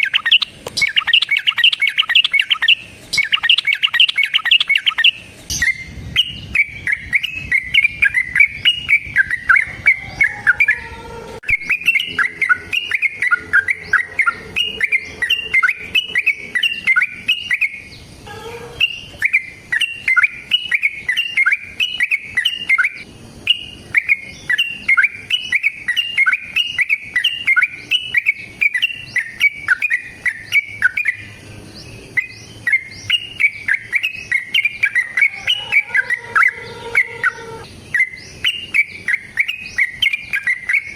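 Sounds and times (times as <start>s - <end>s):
bird singing chirping runs: 0.0s - 40.9s.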